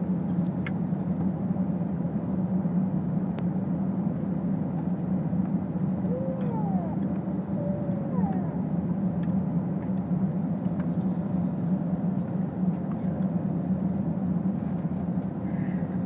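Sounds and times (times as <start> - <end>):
jet airliner cabin drone: 0.0 - 16.0.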